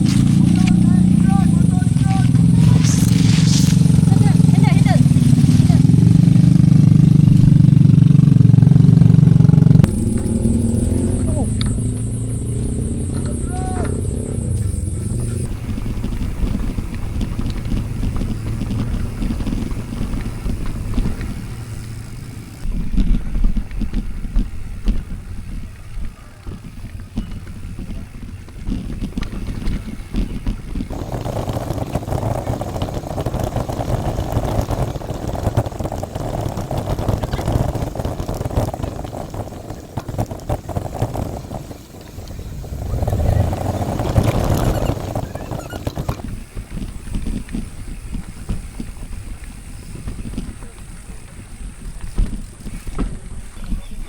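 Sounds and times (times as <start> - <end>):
bike tyre rumble: 0.0 - 54.0
wind buffeting microphone: 0.0 - 54.0.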